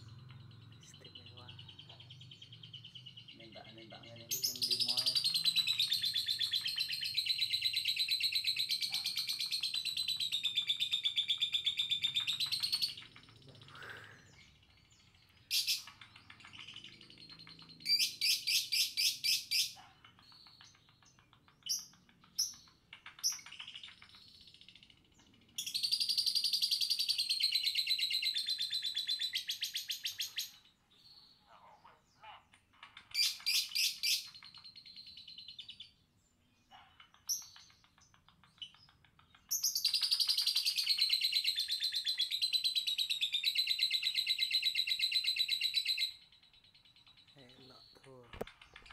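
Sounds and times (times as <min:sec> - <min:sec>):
lovebird chattering trills: 0:00.0 - 0:36.0, 0:36.6 - 0:48.9.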